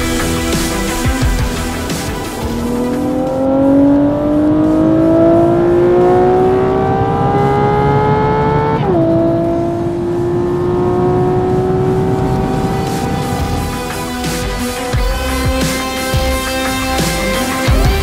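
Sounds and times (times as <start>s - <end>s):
sports car engine accelerating: 0.0s - 18.0s.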